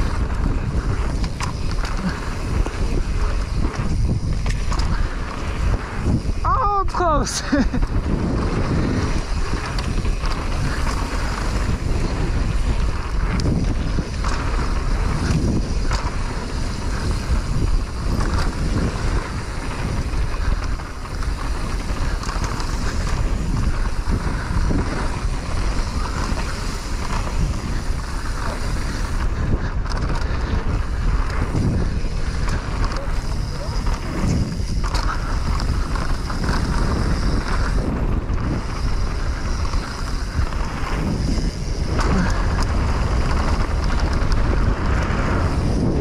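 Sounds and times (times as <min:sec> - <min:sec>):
mountain bike rattling on trail: 0:00.0 - 0:46.0
wind buffeting microphone: 0:00.0 - 0:46.0.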